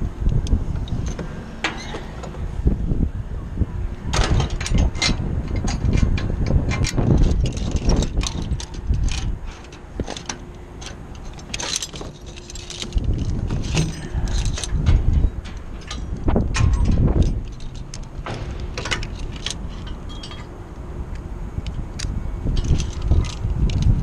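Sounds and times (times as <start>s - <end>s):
wind buffeting microphone: 0.0s - 24.0s
metal climbing hardware clinking: 4.1s - 24.0s.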